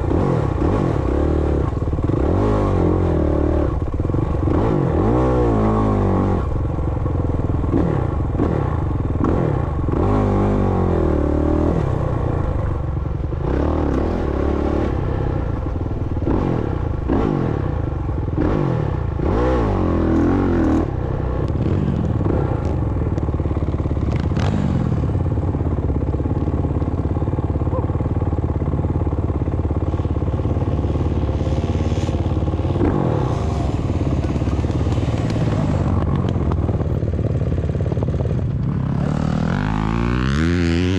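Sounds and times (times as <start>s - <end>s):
dirt bike engine revving: 0.0s - 6.6s, 7.6s - 26.8s, 27.6s - 40.9s.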